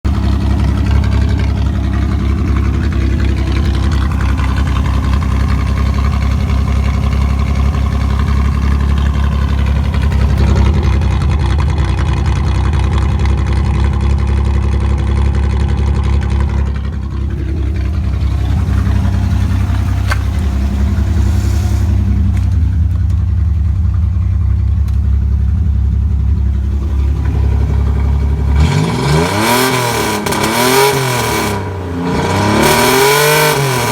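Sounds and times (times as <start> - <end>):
engine revving: 0.0 - 23.6, 26.5 - 33.9
car engine idling loudly: 0.0 - 33.9.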